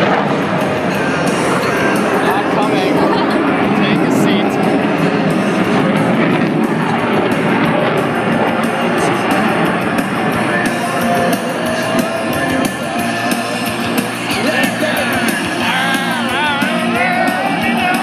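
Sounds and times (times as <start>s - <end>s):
rock music with singing: 0.0s - 18.0s.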